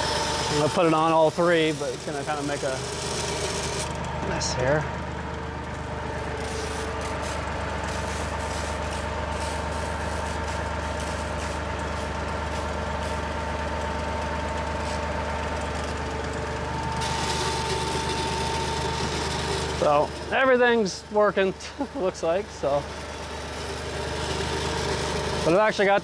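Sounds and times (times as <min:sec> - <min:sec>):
thin pump whine: 0:00.0 - 0:26.0
tractor engine running: 0:00.0 - 0:26.0.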